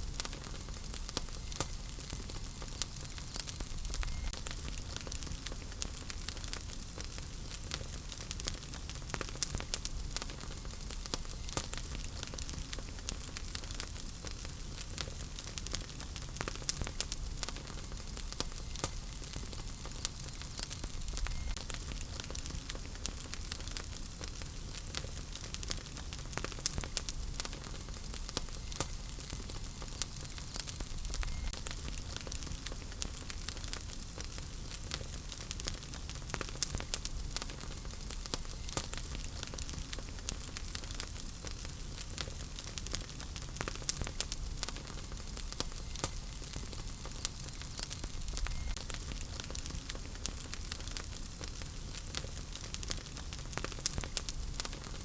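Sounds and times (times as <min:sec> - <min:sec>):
rumble and hiss of flames: 0:00.0 - 0:55.0
wood fire crackling and popping: 0:00.0 - 0:55.0.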